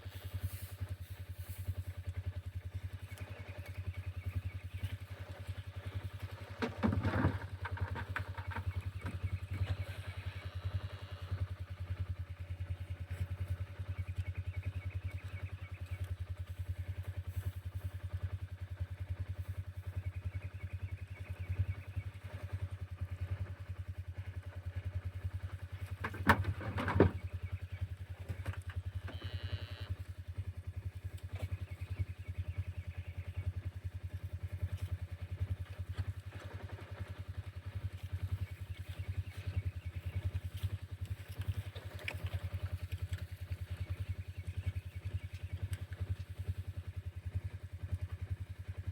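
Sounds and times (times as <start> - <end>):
engine running at low revs: 0.0 - 48.9.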